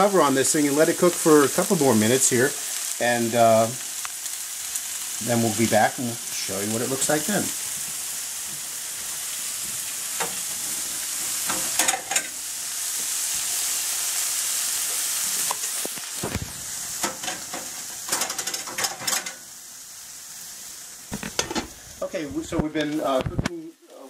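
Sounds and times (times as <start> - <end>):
vegetables sizzling in a skillet: 0.0 - 24.0.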